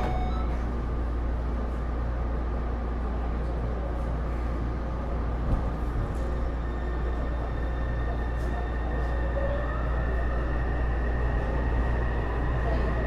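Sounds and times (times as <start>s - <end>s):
metro train wheels and motors rumbling: 0.0s - 13.0s.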